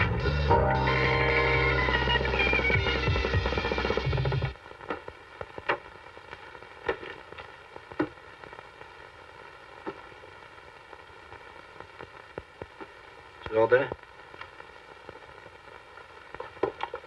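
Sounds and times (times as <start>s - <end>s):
soundtrack hiss: 0.0s - 17.0s.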